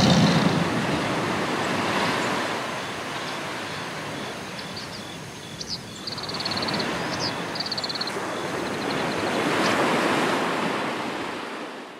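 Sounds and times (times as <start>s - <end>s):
waves washing on beach: 0.0s - 11.9s.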